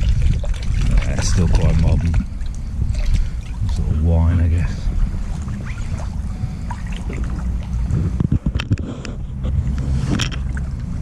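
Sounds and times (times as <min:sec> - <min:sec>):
water splashes: 0:00.0 - 0:08.2, 0:09.6 - 0:11.0
river water sloshing: 0:00.0 - 0:08.3, 0:09.3 - 0:11.0
wind rumble on microphone: 0:00.0 - 0:11.0.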